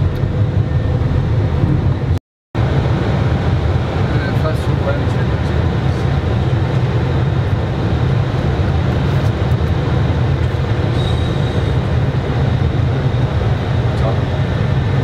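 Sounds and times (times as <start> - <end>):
airflow and engine rumble: 0.0 - 15.0.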